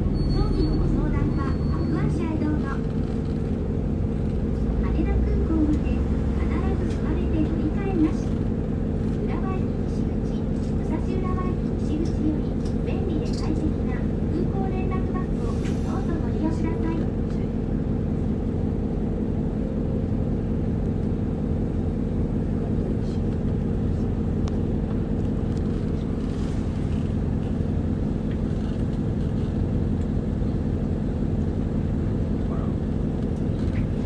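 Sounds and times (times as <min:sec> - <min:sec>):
diesel bus engine hum: 0:00.0 - 0:34.0
low road rumble: 0:00.0 - 0:34.0.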